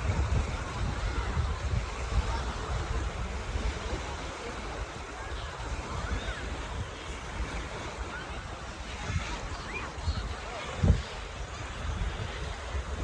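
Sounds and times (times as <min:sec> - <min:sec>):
ocean surf on a beach: 0:00.0 - 0:13.0
wind buffeting microphone: 0:00.0 - 0:13.0.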